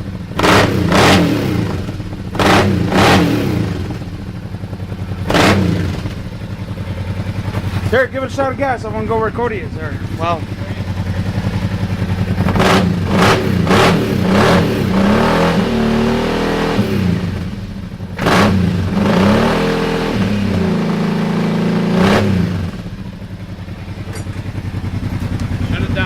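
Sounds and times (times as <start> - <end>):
engine revving: 0.0 - 6.4, 7.3 - 23.0, 25.0 - 26.0.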